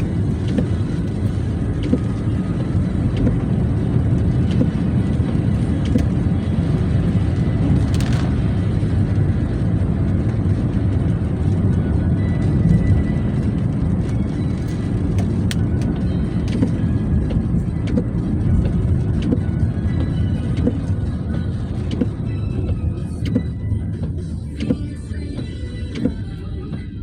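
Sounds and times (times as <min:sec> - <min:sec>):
music from car radio: 0:00.0 - 0:27.0
road and engine rumble in car: 0:00.0 - 0:27.0.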